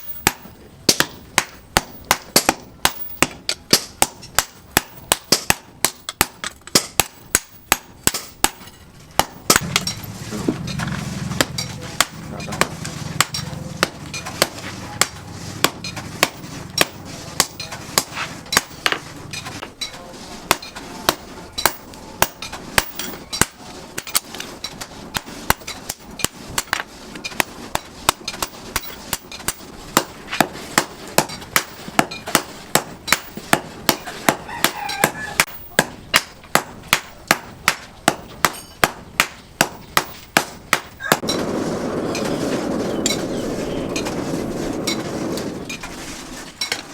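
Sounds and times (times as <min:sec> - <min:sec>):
forging hammer striking steel: 0:00.0 - 0:41.4.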